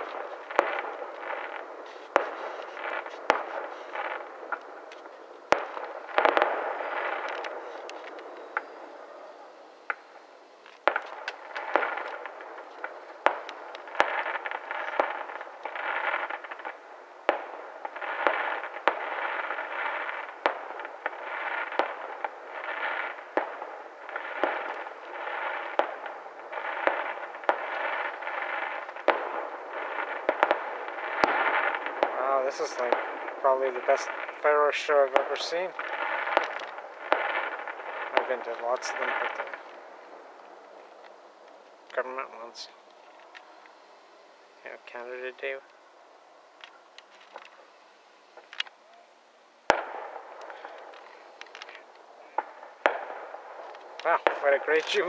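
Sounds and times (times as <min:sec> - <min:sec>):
fireworks bangs echoing: 0:00.0 - 0:45.8, 0:46.5 - 0:55.0.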